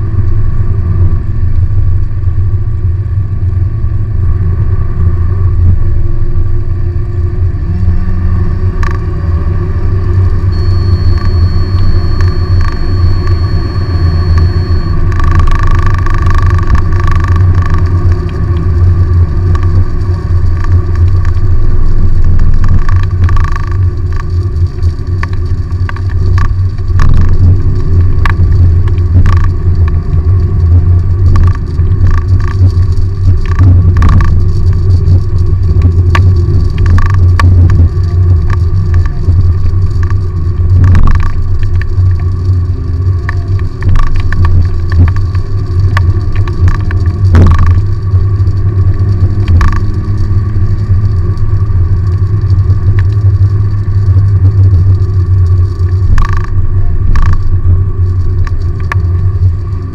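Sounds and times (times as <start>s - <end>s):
car cabin road and engine drone: 0.0s - 59.9s.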